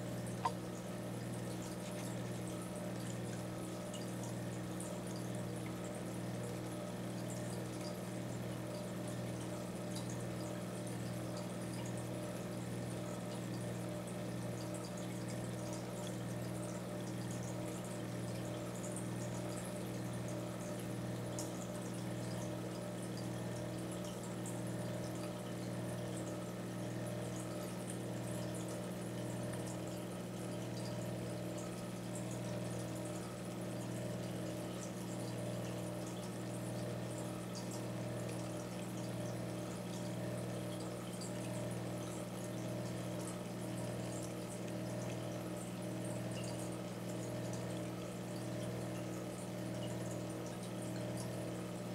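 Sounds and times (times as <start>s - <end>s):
aquarium pump humming: 0.0s - 51.9s
water trickling and dripping: 0.0s - 51.9s.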